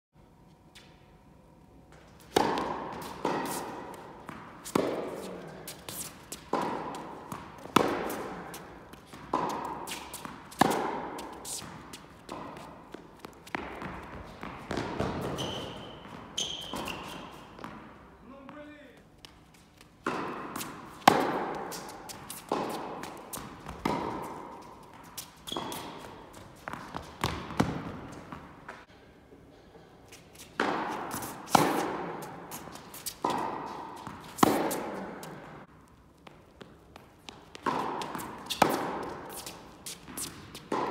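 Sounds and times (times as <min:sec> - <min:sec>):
tennis racket hitting ball: 0:02.2 - 0:17.9, 0:20.0 - 0:28.8, 0:30.6 - 0:35.7, 0:36.6 - 0:40.9.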